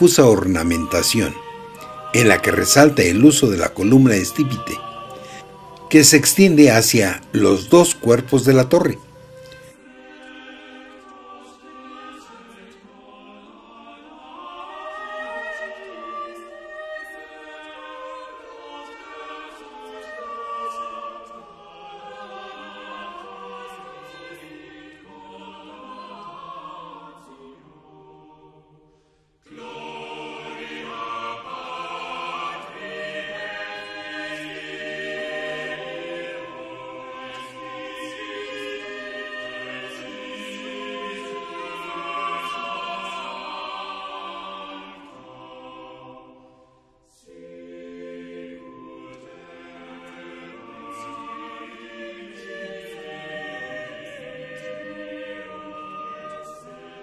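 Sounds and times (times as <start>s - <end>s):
choir singing sustained chant: 0.0s - 57.0s.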